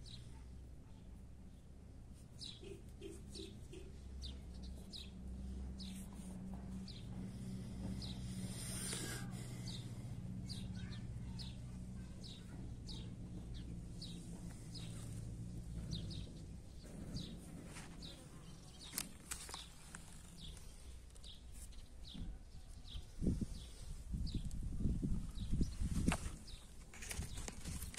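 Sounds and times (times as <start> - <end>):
low mechanical hum: 0.0 - 27.9
small bird chirping: 2.2 - 27.8.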